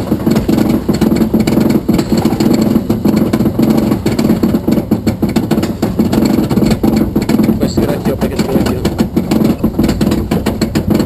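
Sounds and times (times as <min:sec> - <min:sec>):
motor throbbing steadily: 0:00.0 - 0:11.0.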